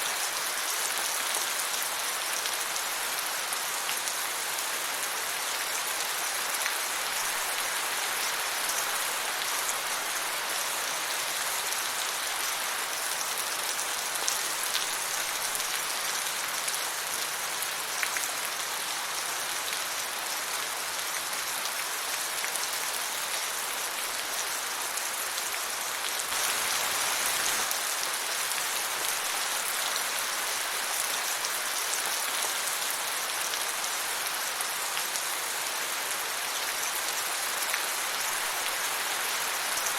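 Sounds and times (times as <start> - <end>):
rain pattering on surface: 0.0 - 39.9.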